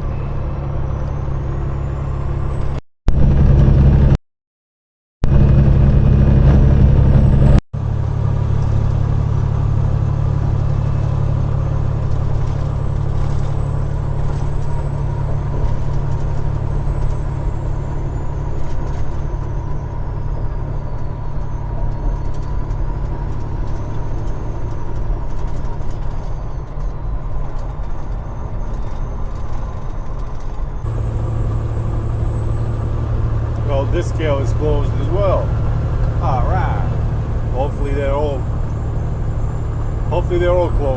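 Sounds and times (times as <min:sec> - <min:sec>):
truck diesel engine running: 0:00.0 - 0:04.2, 0:05.2 - 0:40.9.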